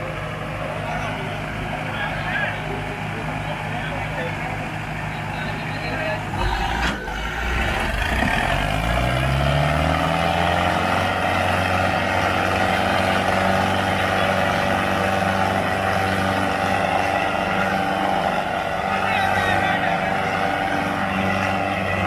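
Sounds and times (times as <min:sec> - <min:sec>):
diesel tractor engines revving: 0:00.0 - 0:22.0.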